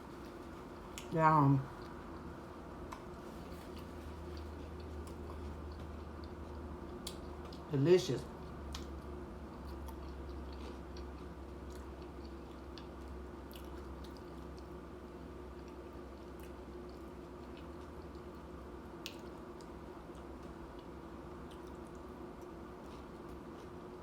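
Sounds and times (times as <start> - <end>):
chewing crunchy food: 0.0 - 24.0
steady low hum: 0.0 - 24.0.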